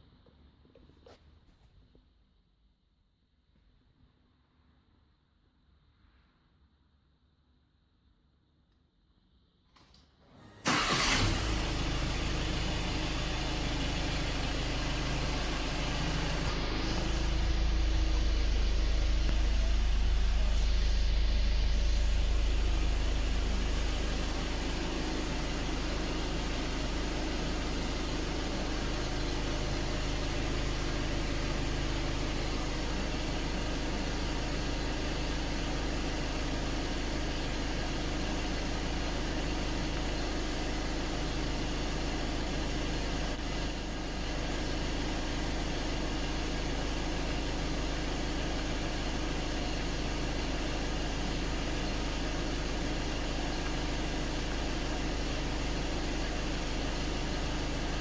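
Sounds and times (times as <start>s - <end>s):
car engine running: 10.7s - 58.0s.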